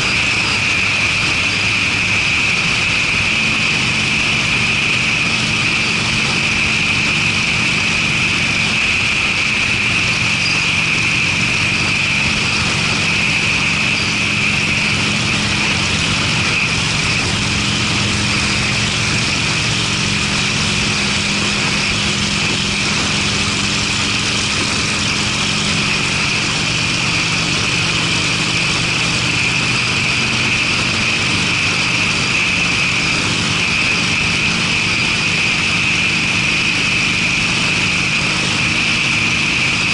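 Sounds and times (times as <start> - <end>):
motorcycle engine cruising: 0.0 - 39.9
road and wind noise: 0.0 - 39.9.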